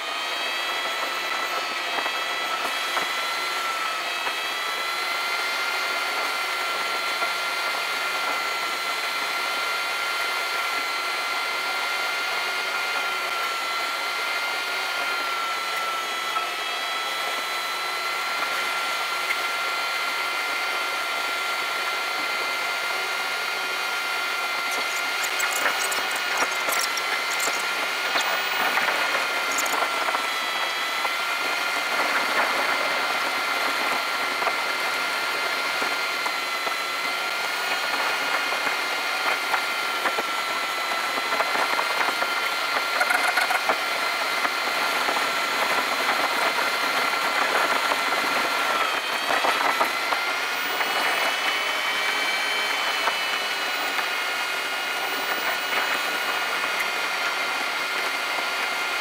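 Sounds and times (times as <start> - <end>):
sped-up engine high whine: 0.0 - 59.0.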